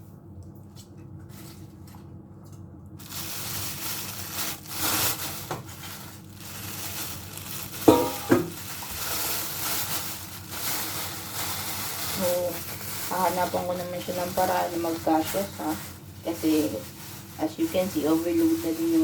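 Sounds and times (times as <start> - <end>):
plastic bags rustling: 1.2 - 2.1, 3.0 - 19.0.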